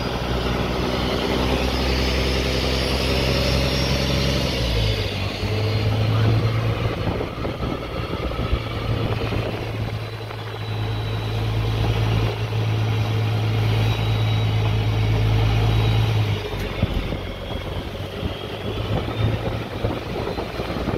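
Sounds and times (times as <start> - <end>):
boat engine humming: 0.0 - 20.9
water rushing along hull: 0.0 - 20.9.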